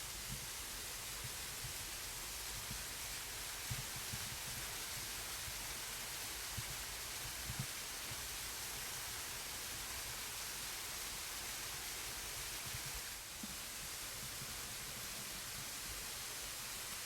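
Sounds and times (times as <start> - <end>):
waterfall pouring into pool: 0.1 - 17.0.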